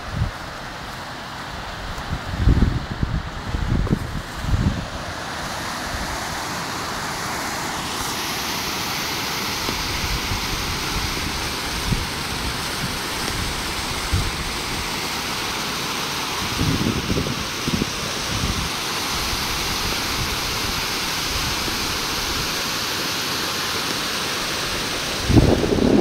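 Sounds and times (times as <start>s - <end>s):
water pouring over a spillway: 0.0s - 26.0s.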